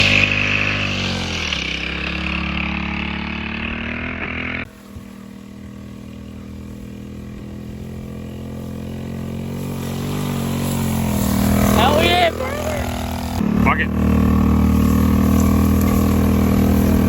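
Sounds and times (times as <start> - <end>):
moped engine running: 0.0 - 17.0.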